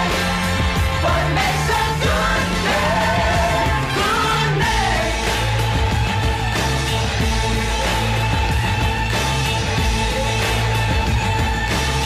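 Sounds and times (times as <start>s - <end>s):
bass line: 0.0s - 12.0s.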